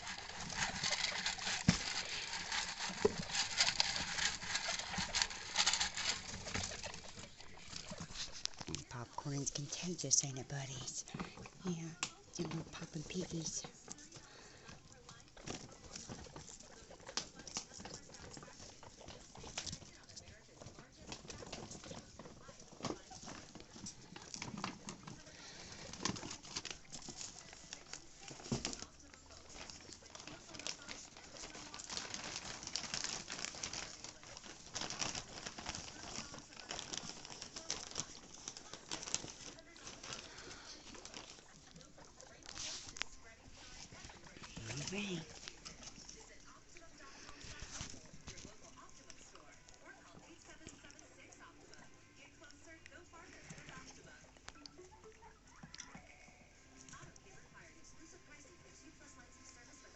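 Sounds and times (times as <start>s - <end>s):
guinea pigs scurrying: 0.0s - 59.9s.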